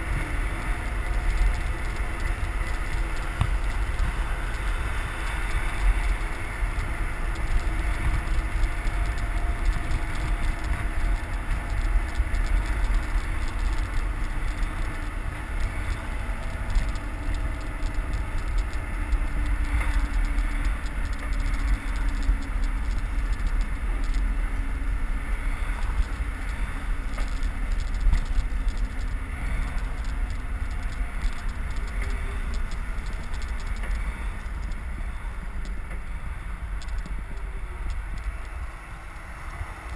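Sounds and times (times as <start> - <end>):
bicycle tyre noise: 0.0 - 39.9
passing traffic: 0.0 - 39.9
wind rumbling on microphone: 0.0 - 39.9.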